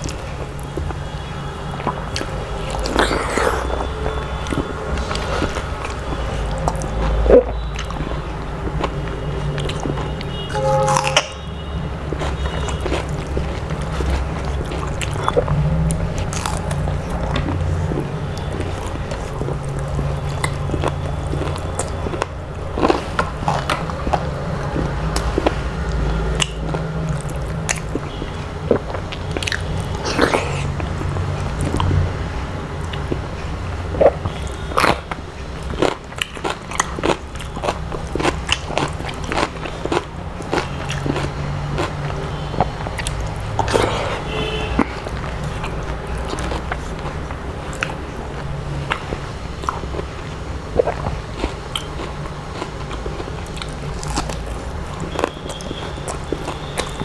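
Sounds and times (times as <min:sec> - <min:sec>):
chewing and crunching: 0:00.0 - 0:57.0.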